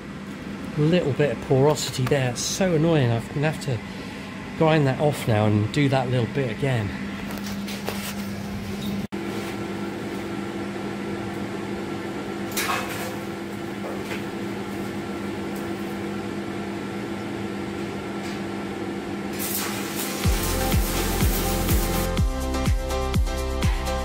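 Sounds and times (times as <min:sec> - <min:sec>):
ventilation fan humming: 0:00.0 - 0:23.5.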